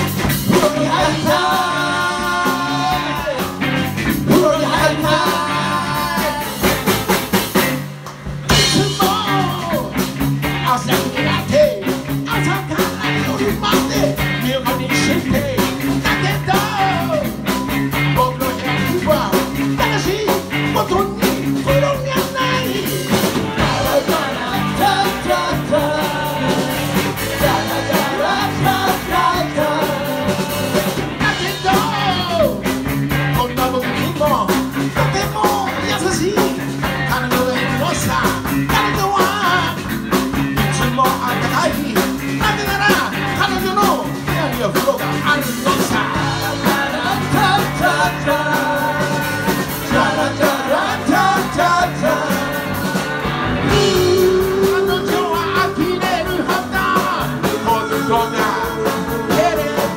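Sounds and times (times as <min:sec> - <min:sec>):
man singing: 0:00.0 - 0:07.0, 0:08.5 - 0:40.0, 0:40.6 - 0:59.9
live rock band playing: 0:00.0 - 0:59.9.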